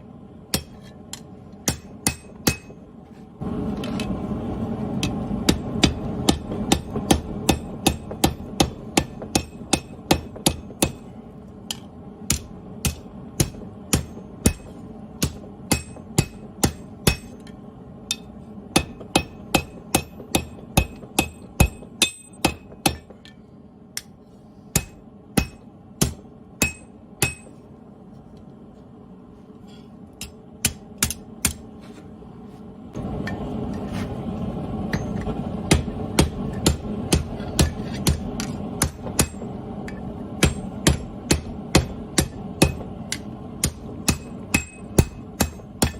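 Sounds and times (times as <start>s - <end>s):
hammer striking hot steel: 0.4s - 2.9s, 4.9s - 27.6s, 30.2s - 31.8s, 34.8s - 45.9s.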